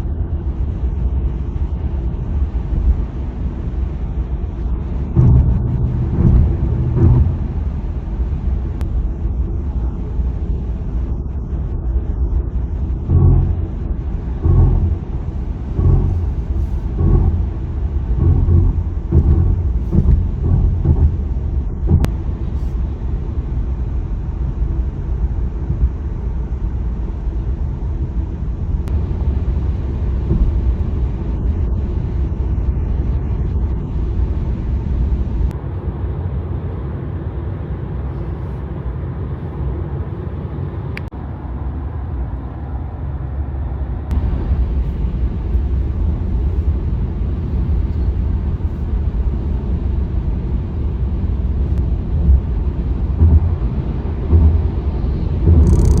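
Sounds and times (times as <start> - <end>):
road and tyre rumble: 0.0 - 56.0.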